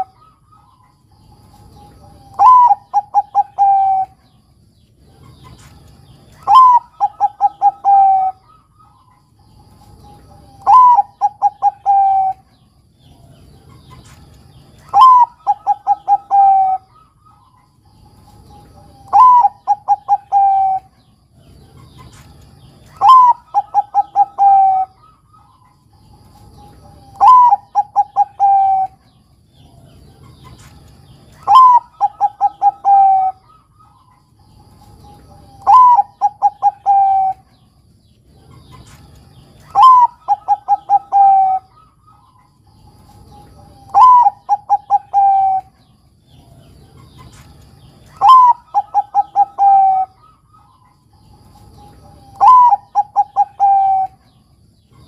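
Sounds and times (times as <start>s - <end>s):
dove cooing: 0.0s - 4.4s, 5.0s - 55.0s.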